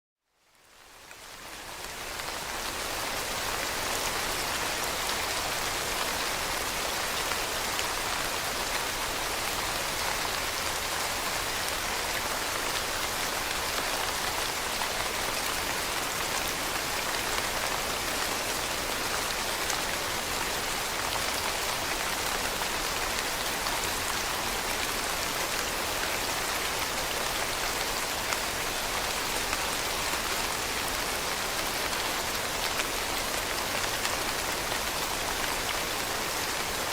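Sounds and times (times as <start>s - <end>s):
rain falling: 0.4s - 36.9s.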